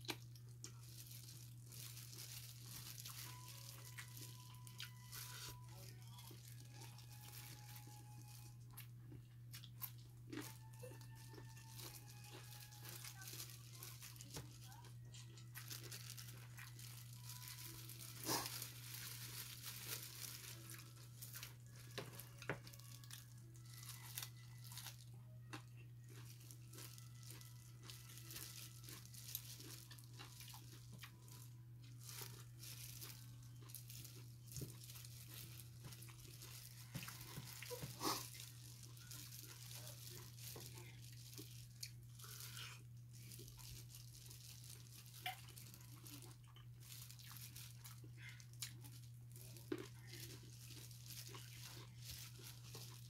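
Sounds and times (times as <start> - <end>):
chewing and crunching food: 0.0 - 53.0
plastic gloves crinkling: 0.0 - 53.0.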